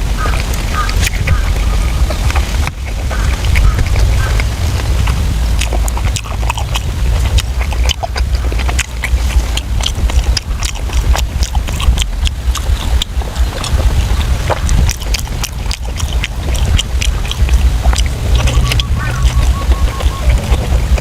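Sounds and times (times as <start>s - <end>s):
steady low rumble: 0.0s - 21.0s
wet chewing and lip-smacking: 0.0s - 21.0s.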